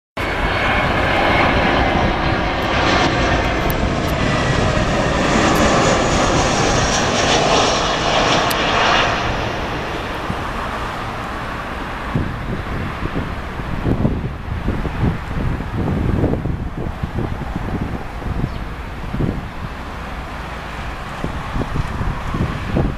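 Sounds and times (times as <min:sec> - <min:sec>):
jet airliner flying overhead: 0:00.2 - 0:22.9.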